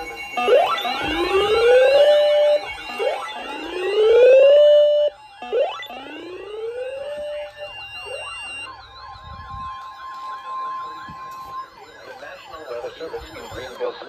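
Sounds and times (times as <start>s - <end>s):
sirens wailing and yelping: 0.0s - 14.0s.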